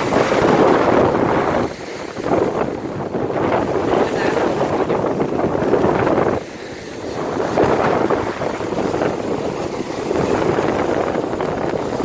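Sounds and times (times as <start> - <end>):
surf on pebble beach: 0.0 - 12.0
wind buffeting microphone: 0.0 - 12.0.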